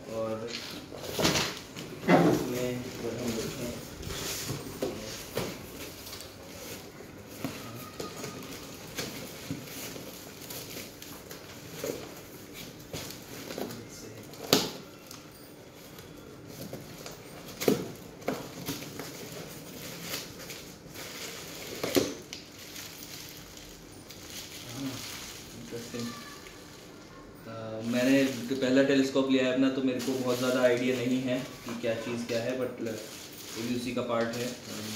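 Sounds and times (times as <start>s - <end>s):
plastic wrapping rustling: 0.0s - 34.9s.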